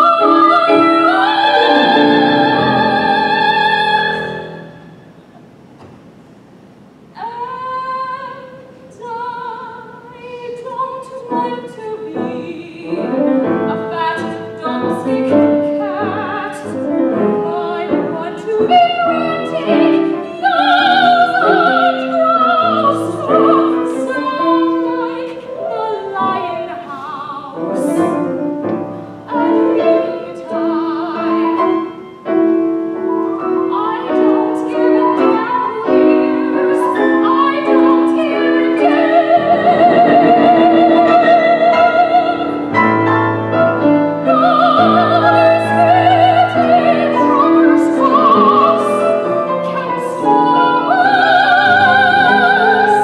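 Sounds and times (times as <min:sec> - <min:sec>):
soprano singing with vibrato: 0:00.0 - 0:05.0, 0:07.1 - 0:53.0
grand piano chords: 0:00.0 - 0:53.0.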